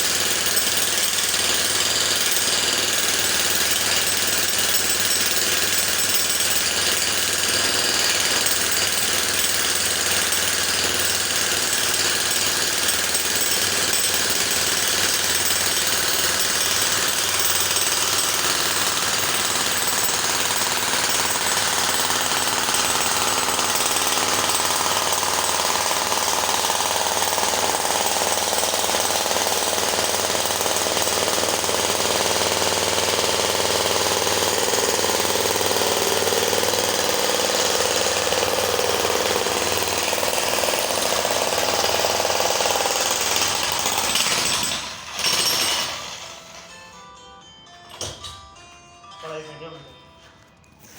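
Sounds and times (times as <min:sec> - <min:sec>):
jackhammer hammering: 0:00.0 - 0:46.8.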